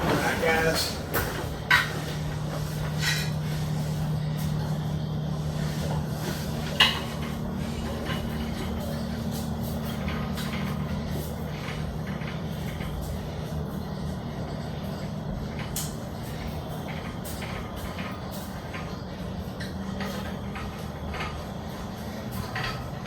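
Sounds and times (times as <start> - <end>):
machine motor humming: 0.0 - 23.0.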